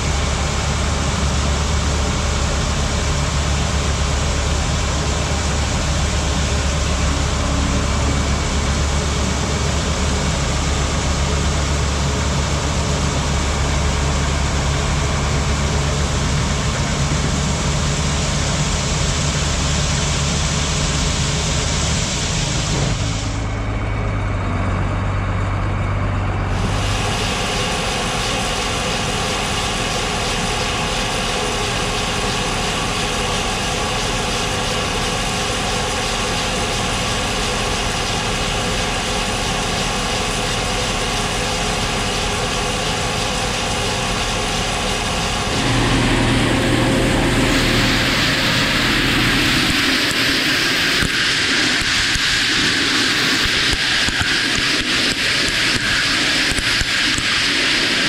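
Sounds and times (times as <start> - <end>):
diesel tractor engine running: 0.0 - 57.7.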